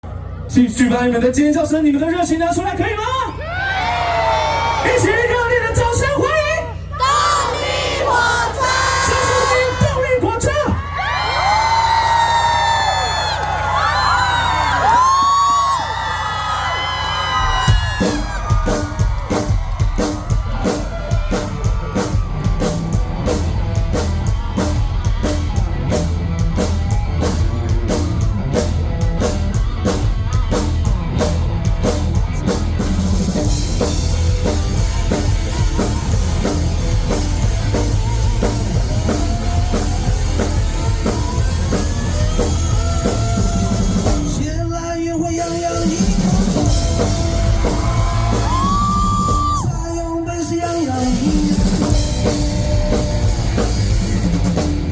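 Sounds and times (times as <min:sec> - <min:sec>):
rock band playing live: 0:01.6 - 0:54.9
steady drum beat: 0:04.9 - 0:44.7, 0:45.4 - 0:54.9.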